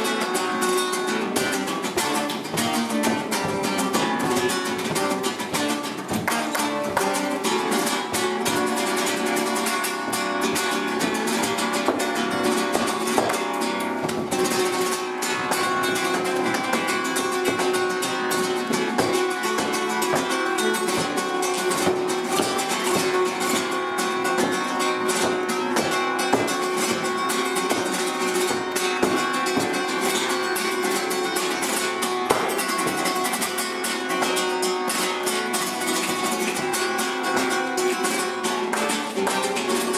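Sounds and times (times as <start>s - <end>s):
flamenco guitar playing: 0.0s - 39.9s.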